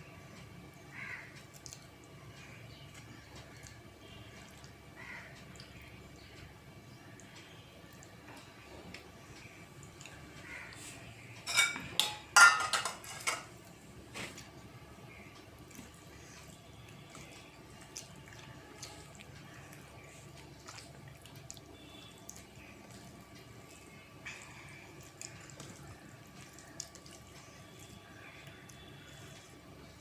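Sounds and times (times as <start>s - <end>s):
wet eating sounds: 1.2s - 11.3s, 13.5s - 30.0s.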